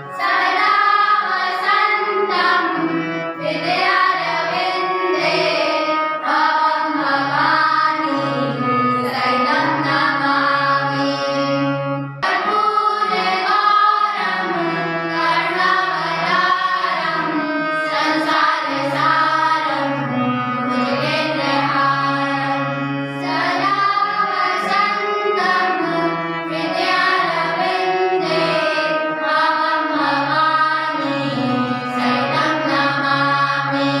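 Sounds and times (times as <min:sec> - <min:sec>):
singing with instrumental accompaniment: 0:00.0 - 0:34.0.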